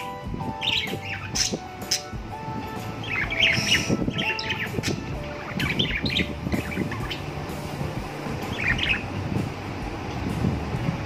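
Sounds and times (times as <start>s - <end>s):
budgerigars chirping: 0.0s - 9.2s.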